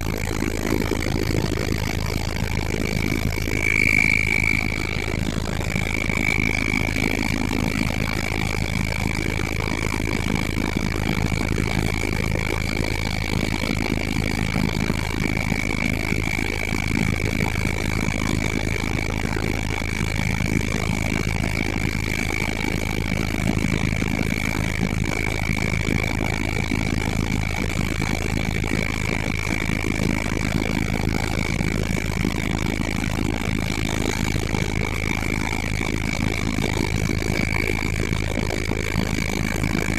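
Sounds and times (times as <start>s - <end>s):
helicopter rotor and engine drone: 0.0s - 39.9s
high turbine whine: 0.0s - 39.9s.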